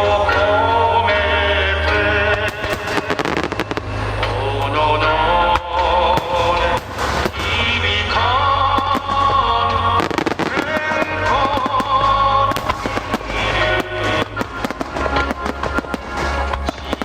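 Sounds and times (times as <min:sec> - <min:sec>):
loud music over loudspeakers: 0:00.0 - 0:17.0
fireworks bursting: 0:01.9 - 0:17.0.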